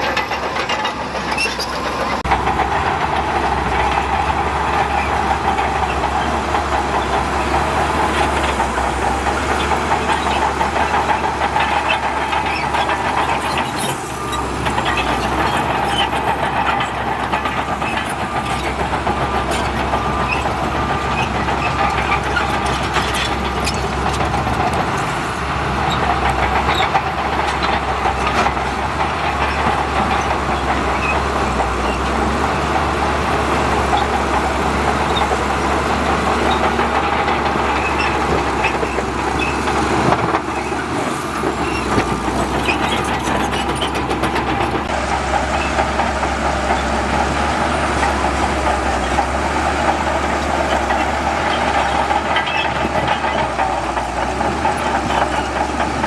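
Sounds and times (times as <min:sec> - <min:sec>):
bulldozer diesel engine running: 0:00.0 - 0:56.0
crawler tracks clanking and squeaking: 0:00.0 - 0:56.0.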